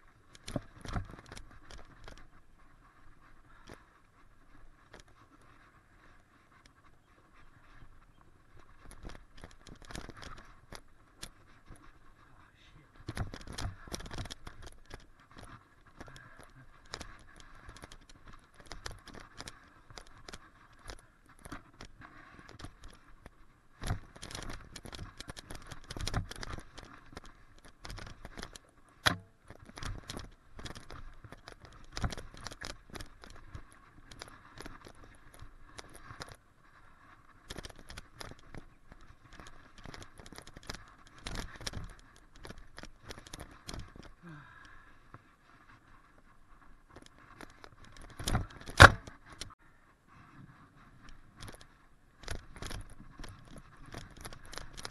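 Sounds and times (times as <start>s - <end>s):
bike parts rattling and jangling: 0.0s - 12.3s, 12.9s - 49.6s, 51.0s - 54.9s.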